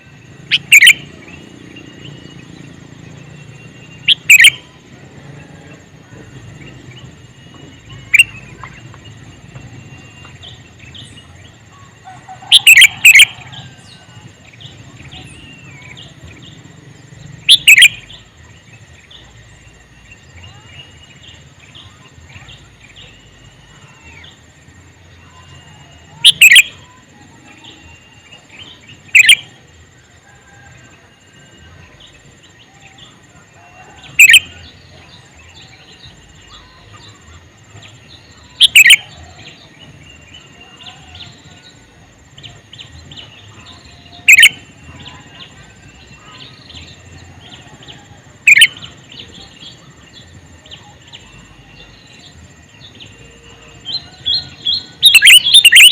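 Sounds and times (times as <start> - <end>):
bulbul calls: 0.0 - 55.9
faint bird chirping: 0.0 - 55.9.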